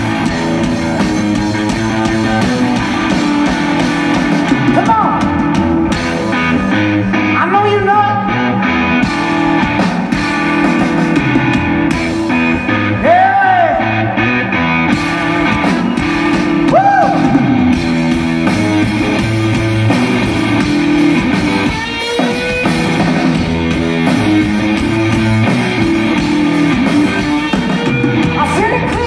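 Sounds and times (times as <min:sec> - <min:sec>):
live rock band playing: 0:00.0 - 0:29.0
swooping guitar notes: 0:00.0 - 0:29.0.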